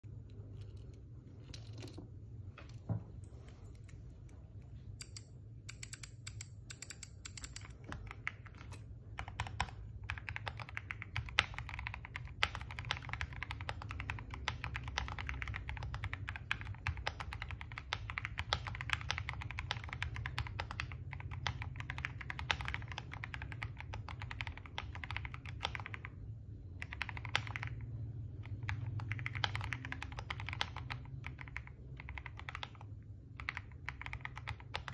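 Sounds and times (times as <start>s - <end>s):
low steady hum: 0.0s - 34.9s
typing on a keyboard: 5.0s - 34.9s.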